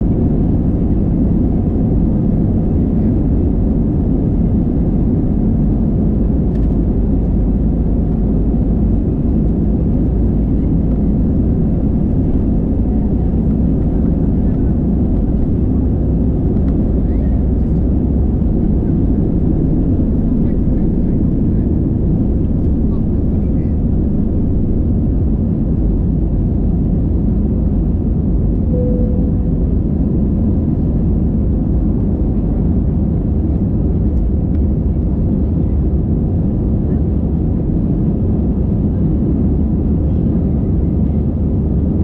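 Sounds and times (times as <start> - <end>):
jet engine and airflow rumble: 0.0 - 42.0.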